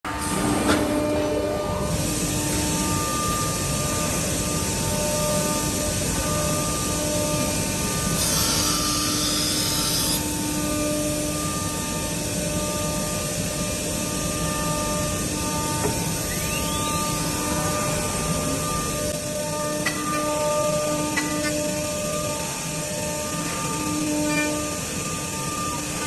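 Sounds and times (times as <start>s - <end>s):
drilling machine humming: 0.9s - 26.0s.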